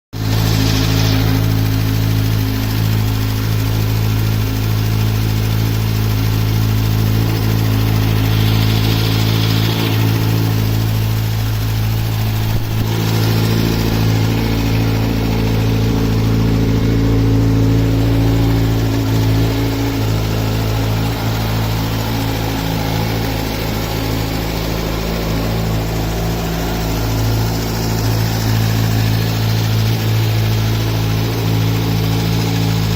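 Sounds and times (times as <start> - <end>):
engine clicking and knocking: 0.0 - 32.9
motorcycle engine idling: 0.2 - 32.9.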